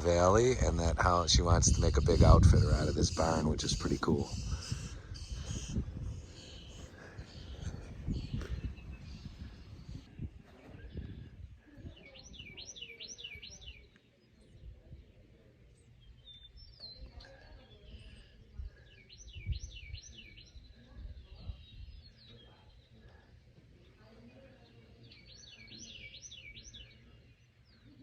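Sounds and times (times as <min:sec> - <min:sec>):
low rumble of wind: 0:00.0 - 0:27.9
faint bird chirps: 0:01.7 - 0:28.0.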